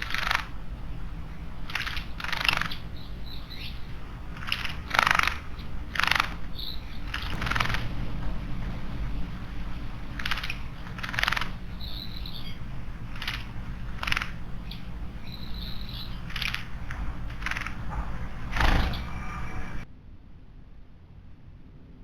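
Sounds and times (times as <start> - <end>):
high bird calls: 0.0 - 19.8
small birds harsh bursts: 0.0 - 19.8
steady low hum: 0.0 - 22.0.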